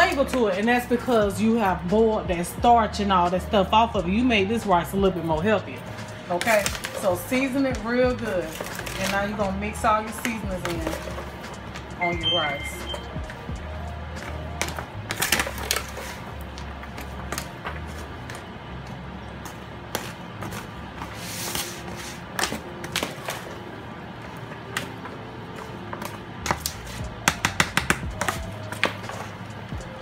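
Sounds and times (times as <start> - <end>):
background music with bass line: 0.0 - 22.8, 26.2 - 30.0.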